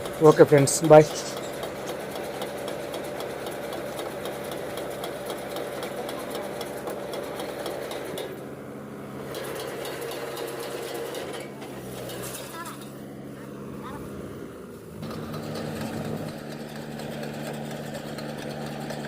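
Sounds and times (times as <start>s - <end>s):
rapid machinery ticking: 0.0s - 8.4s, 9.2s - 12.9s, 15.0s - 19.0s
tractor engine hum: 0.0s - 19.0s.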